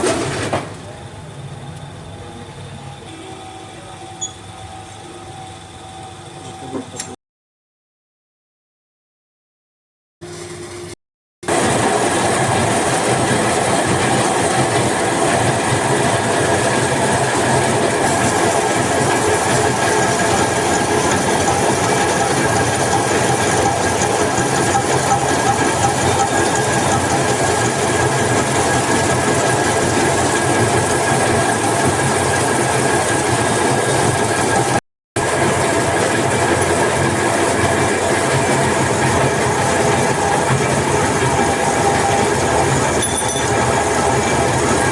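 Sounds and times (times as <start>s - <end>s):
workshop machine running loudly: 0.0s - 7.2s, 10.2s - 44.9s.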